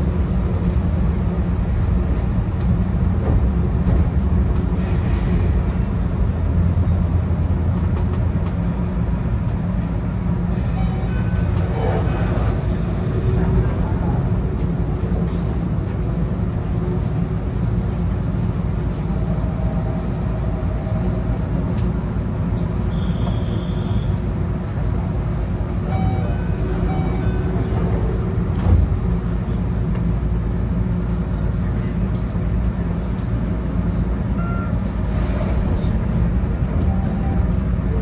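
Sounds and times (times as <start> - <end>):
stationary train hum: 0.0 - 38.0.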